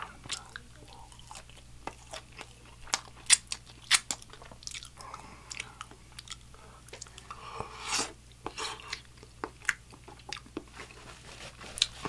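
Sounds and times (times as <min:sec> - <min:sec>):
crunchy chewing of fried chicken: 0:00.0 - 0:12.0.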